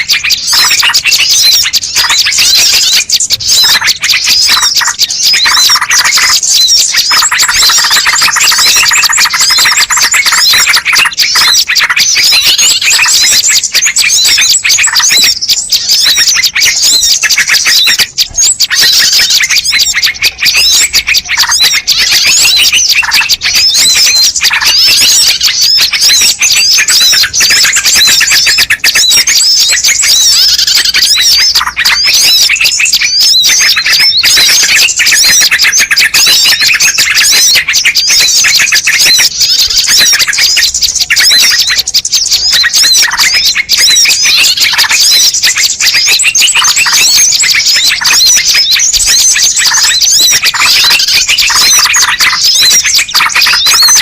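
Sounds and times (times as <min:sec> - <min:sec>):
many small birds chirping: 0:00.0 - 0:54.0.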